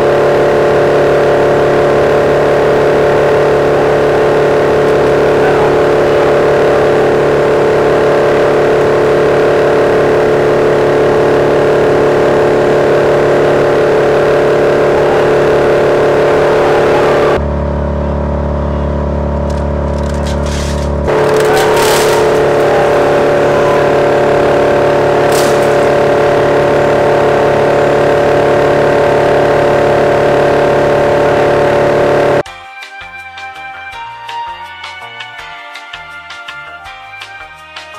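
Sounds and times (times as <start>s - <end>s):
wood chipper running: 0.0s - 32.5s.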